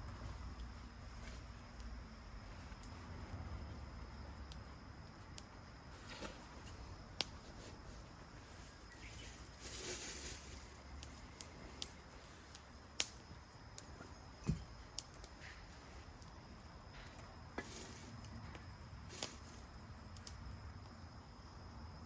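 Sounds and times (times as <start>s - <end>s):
campfire crackling: 0.0s - 21.5s
fire hiss: 0.0s - 21.7s
faint outdoor background: 0.0s - 22.0s.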